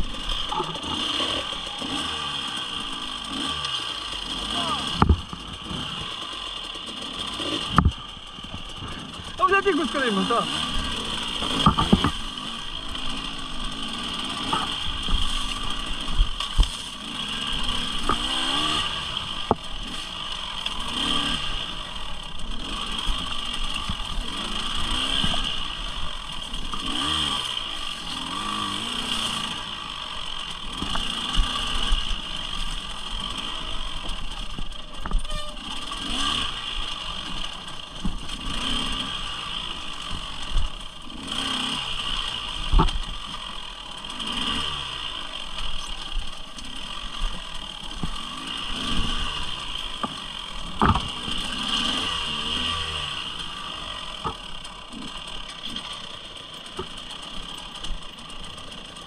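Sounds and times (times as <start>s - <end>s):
wind and road noise: 0.0s - 56.1s
motorcycle engine revving: 0.0s - 59.0s.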